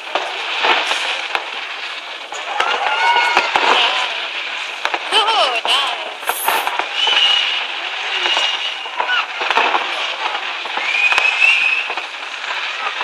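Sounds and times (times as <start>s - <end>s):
fireworks crackling and popping: 0.0s - 13.0s
fireworks whistling: 0.0s - 13.0s.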